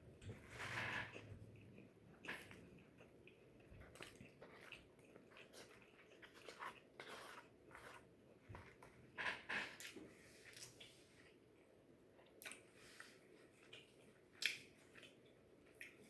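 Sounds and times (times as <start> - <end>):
person chewing: 0.5 - 11.4, 12.2 - 16.0.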